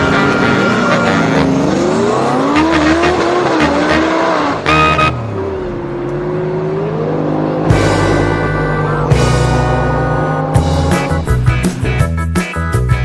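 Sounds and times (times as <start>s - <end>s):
car engine revving: 0.0s - 12.0s
tyre and road noise: 0.0s - 13.0s.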